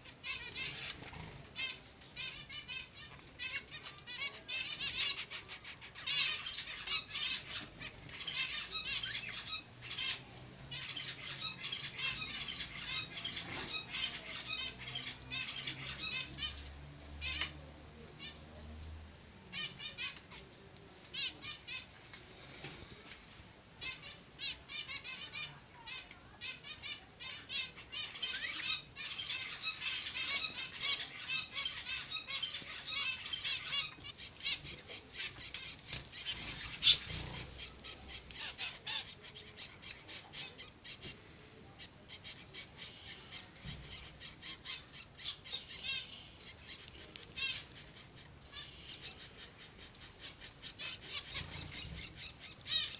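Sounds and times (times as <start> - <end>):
finch chicks begging calls: 0.0 - 18.6, 19.5 - 20.5, 21.1 - 21.9, 23.8 - 52.9.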